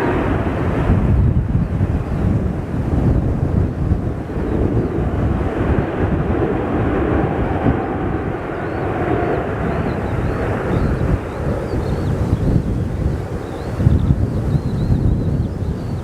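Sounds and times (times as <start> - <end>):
faint whine: 0.0 - 16.0
jet engines roaring: 0.0 - 16.0
wind buffeting microphone: 0.0 - 16.0.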